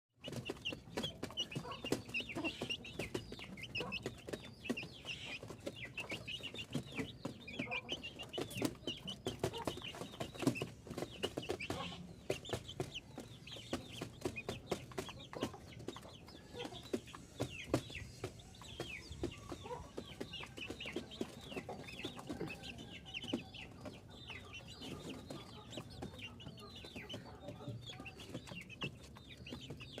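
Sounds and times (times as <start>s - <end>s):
chickens clucking: 0.2s - 30.0s.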